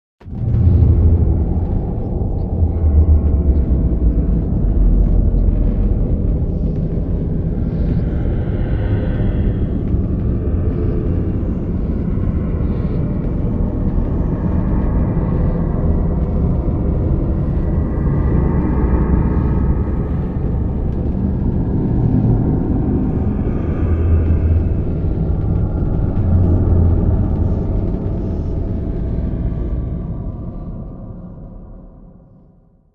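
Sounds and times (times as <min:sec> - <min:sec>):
deep rumbling drone: 0:00.2 - 0:32.9
faint eerie high tones: 0:00.3 - 0:30.4.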